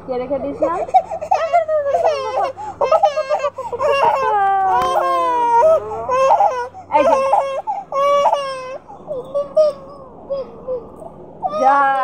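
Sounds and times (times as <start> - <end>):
toddler crying: 0.6 - 12.0.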